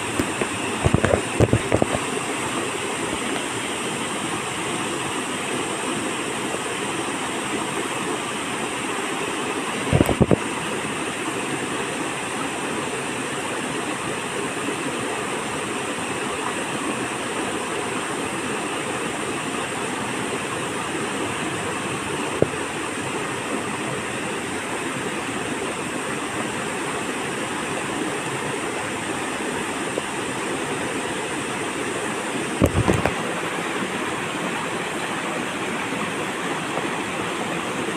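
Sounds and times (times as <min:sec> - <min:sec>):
stream running over stones: 0:00.0 - 0:37.9.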